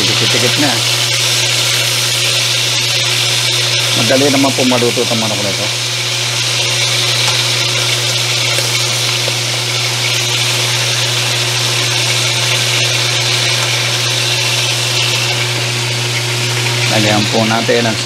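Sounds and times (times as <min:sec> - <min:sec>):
chicken sizzling in oil: 0:00.0 - 0:18.0
low electric hum: 0:00.0 - 0:18.0.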